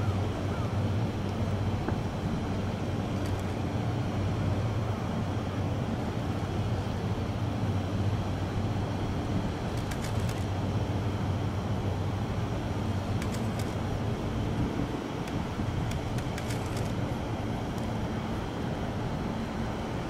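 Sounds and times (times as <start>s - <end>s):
electric train equipment hum: 0.0s - 20.0s.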